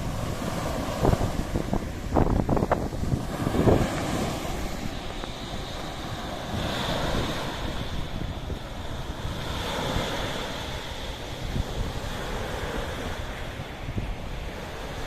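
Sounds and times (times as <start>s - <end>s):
sea waves washing in: 0.0s - 15.0s
wind rumbling on microphone: 0.0s - 15.0s.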